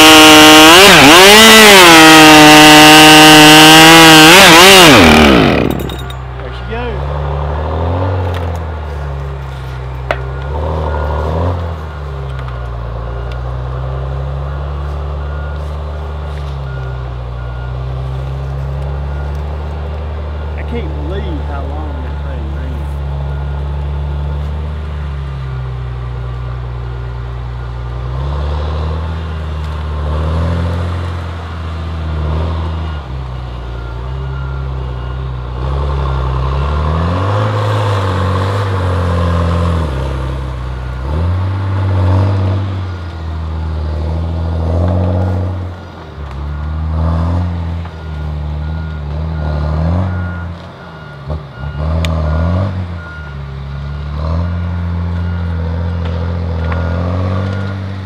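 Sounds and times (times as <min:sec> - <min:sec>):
diesel engine revving: 0:00.0 - 0:58.0.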